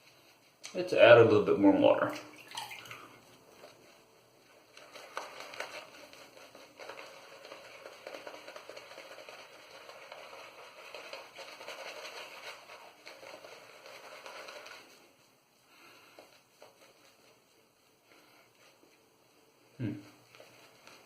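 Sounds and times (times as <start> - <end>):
shaving brush wet brushing: 0.0 - 21.0.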